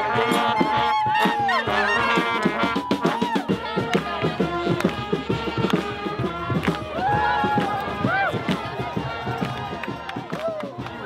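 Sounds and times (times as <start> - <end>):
bass drum beat: 0.0 - 11.0
brass band playing: 0.0 - 11.0.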